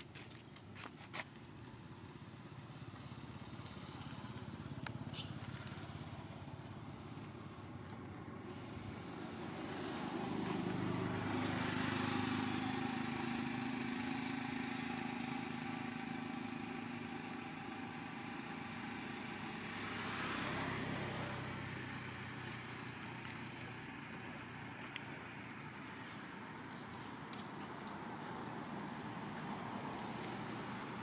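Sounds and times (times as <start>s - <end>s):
vehicle engine passing: 2.6s - 31.0s.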